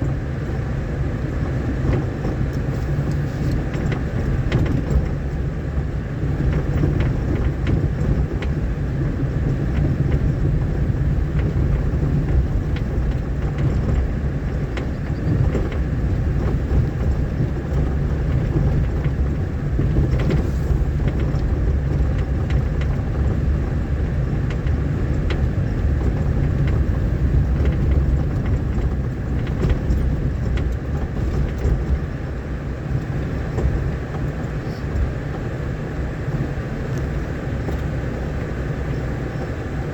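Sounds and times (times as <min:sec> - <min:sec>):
vehicle engine and road rumble: 0:00.0 - 0:39.9
small knocks and rattles: 0:01.2 - 0:39.9.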